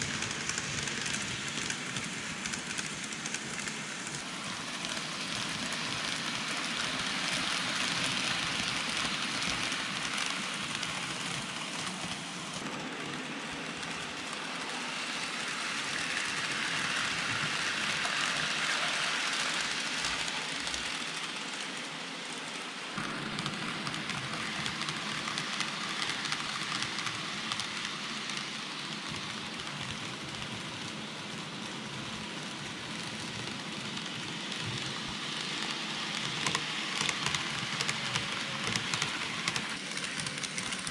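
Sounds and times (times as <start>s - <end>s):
model train wheels rattling on rails: 0.0s - 40.9s.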